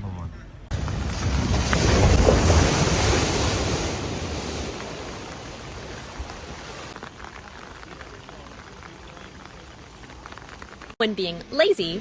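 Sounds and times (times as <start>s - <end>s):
vehicle splashing through floodwater: 0.7s - 10.9s.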